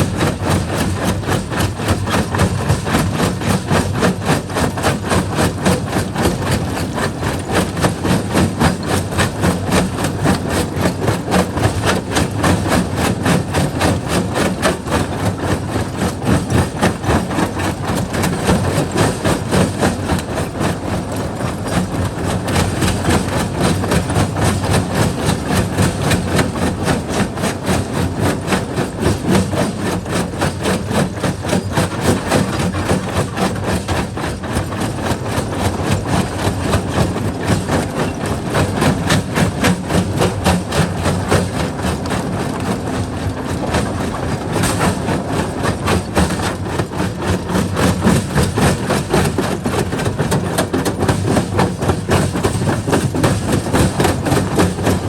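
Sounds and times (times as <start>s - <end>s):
rock crusher clattering: 0.1s - 55.0s.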